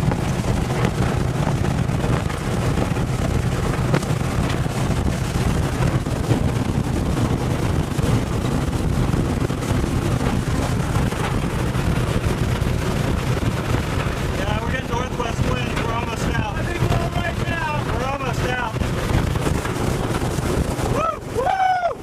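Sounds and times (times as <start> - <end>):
wind rushing around vehicle: 0.0 - 22.0.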